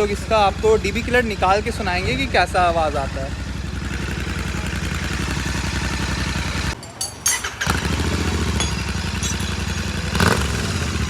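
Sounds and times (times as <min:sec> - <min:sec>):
motorcycle engine idling: 0:00.0 - 0:06.8, 0:07.5 - 0:11.0.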